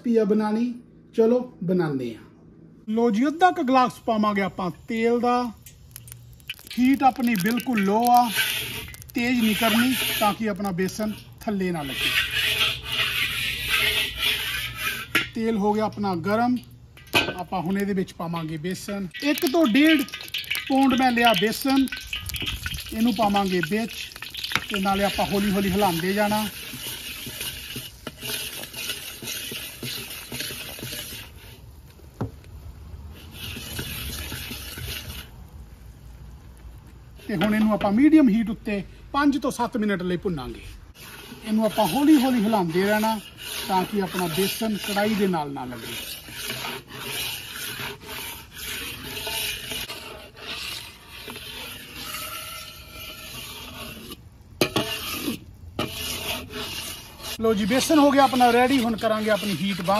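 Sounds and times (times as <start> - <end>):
flour sizzling in hot oil: 3.2 - 38.4, 40.6 - 59.9
spoon stirring and scraping: 4.8 - 31.8, 33.1 - 35.3, 40.9 - 59.9.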